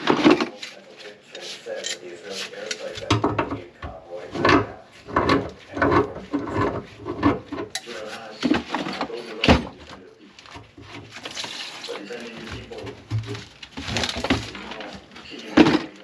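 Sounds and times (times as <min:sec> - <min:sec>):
hard objects knocking and scraping: 0:00.0 - 0:16.0.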